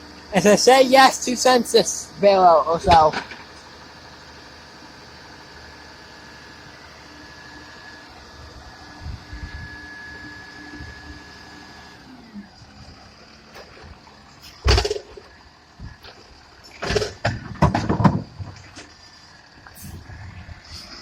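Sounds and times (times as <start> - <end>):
garbage truck whine and rumble: 0.0 - 21.0.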